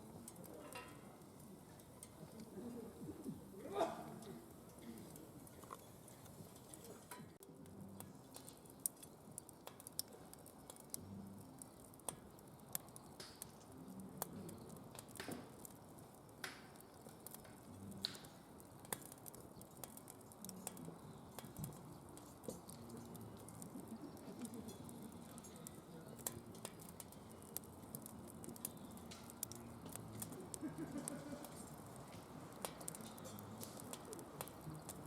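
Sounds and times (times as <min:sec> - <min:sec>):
firewood crackling and popping: 0:00.0 - 0:35.0.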